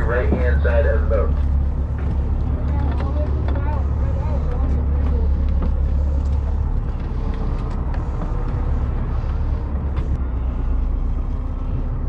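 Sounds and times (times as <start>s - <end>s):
boat engine rumble: 0.0s - 12.0s
water noise: 0.0s - 12.0s.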